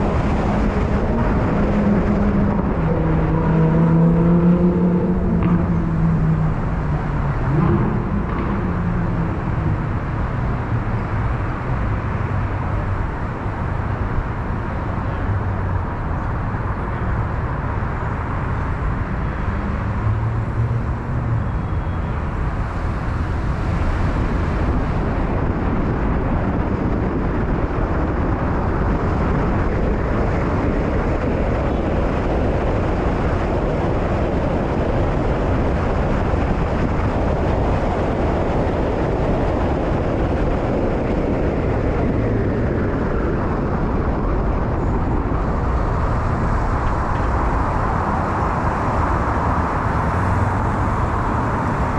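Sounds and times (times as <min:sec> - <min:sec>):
passing traffic: 0:00.0 - 0:51.9
tyre and engine rumble: 0:00.0 - 0:51.9.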